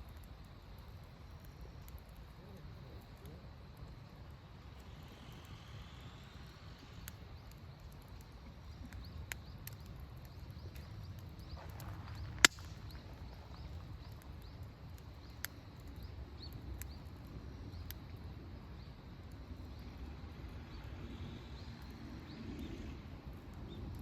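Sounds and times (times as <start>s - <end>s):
fire popping: 0.0s - 24.0s
wood fire crackling: 0.0s - 24.0s.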